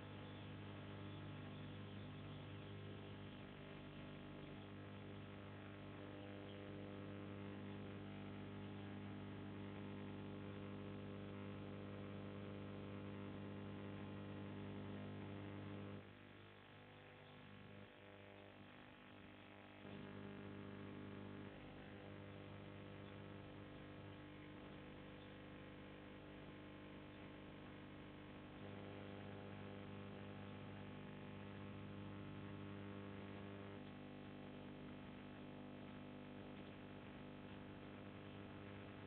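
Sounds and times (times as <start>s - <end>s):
electrical hum with low buzz: 0.0s - 39.0s.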